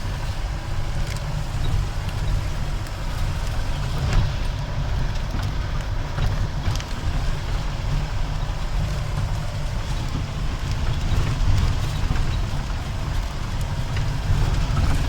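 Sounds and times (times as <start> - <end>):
car engine rumbling: 0.0 - 15.0
light rattles and clicks: 0.0 - 15.0.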